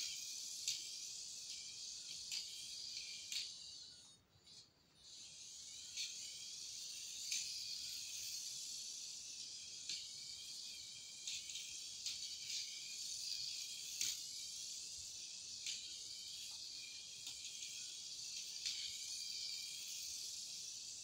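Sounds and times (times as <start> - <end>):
rc car motor whirring: 0.0 - 21.0.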